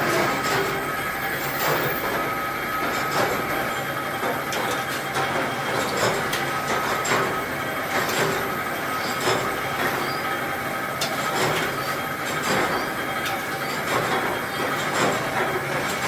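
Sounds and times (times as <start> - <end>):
production-line machinery running: 0.0 - 16.0.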